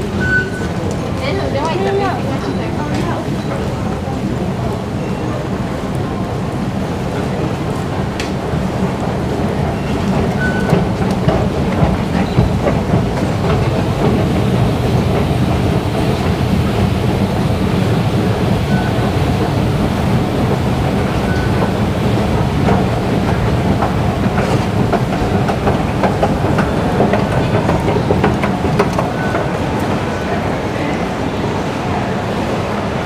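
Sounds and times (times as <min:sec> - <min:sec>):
escalator rumbling and rattling: 0:00.0 - 0:33.0.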